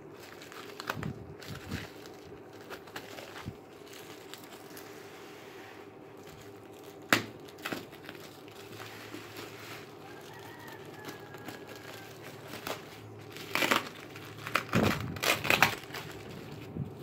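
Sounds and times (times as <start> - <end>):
scissors cutting plastic: 0.0 - 4.8, 6.2 - 17.0
bubble wrap crinkling: 0.0 - 17.0.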